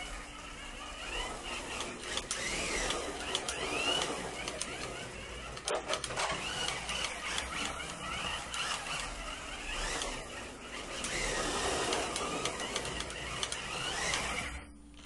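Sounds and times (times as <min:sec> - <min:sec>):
slot car motor whining: 0:00.0 - 0:15.0
car rattling on plastic track: 0:00.8 - 0:14.6.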